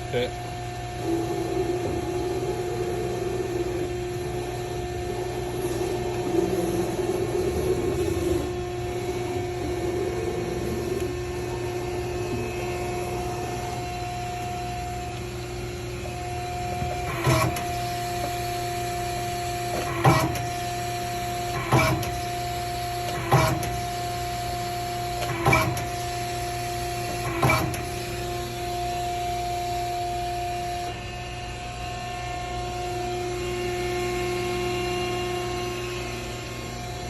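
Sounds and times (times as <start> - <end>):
punching machine humming: 0.0 - 37.0.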